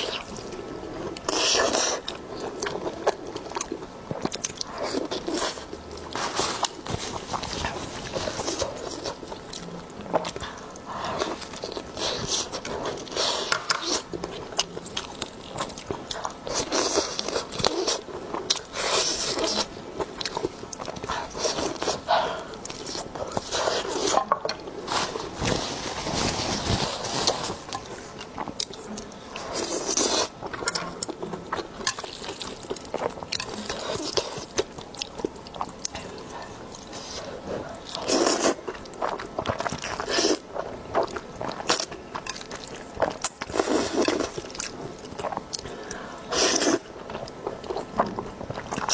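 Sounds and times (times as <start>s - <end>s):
food chewing and crunching: 0.0s - 48.9s.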